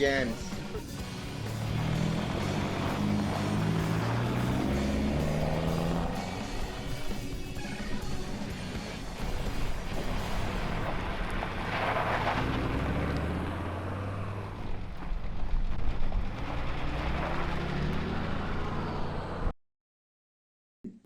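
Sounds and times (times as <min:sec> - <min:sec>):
tyre and road noise: 0:00.0 - 0:19.5
vehicle engine running: 0:00.0 - 0:19.5.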